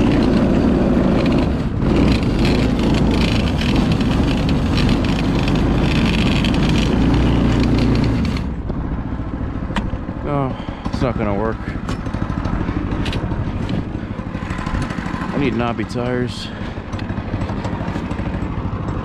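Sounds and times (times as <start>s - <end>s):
go-kart engine running hard: 0.0s - 19.0s.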